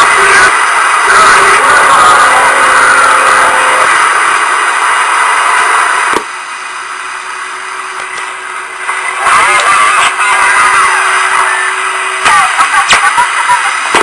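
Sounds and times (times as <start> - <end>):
warbling garbled radio signals: 0.0 - 6.2, 8.8 - 14.0
radio static hiss: 0.0 - 14.0.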